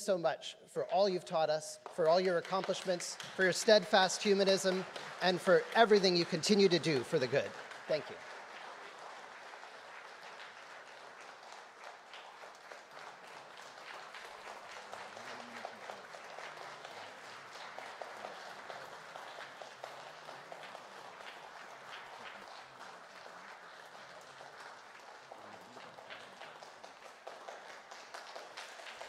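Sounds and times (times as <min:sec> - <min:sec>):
audience applause: 0:01.9 - 0:29.0.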